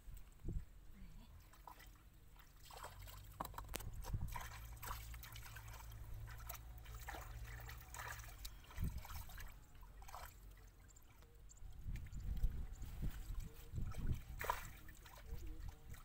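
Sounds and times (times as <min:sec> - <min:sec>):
muddy water sloshing: 0:01.3 - 0:16.0
small splashes: 0:01.4 - 0:16.0.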